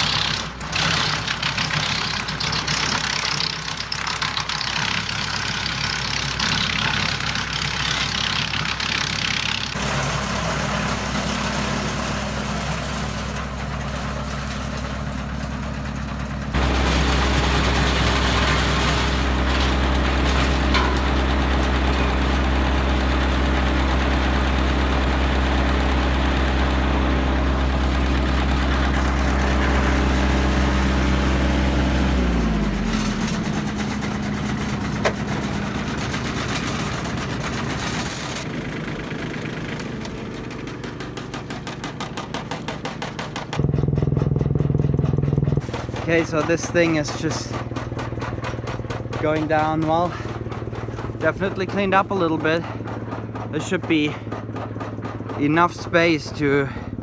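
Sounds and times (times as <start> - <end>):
branches rushing through chipper: 0.0 - 57.0
tractor engine drone: 0.0 - 57.0.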